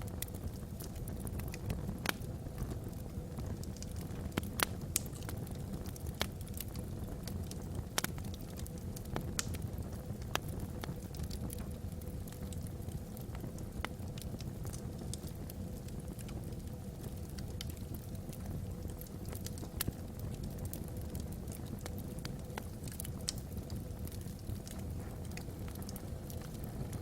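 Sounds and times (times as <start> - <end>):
fire crackling and popping: 0.0 - 27.0
fire rumbling: 0.0 - 27.0.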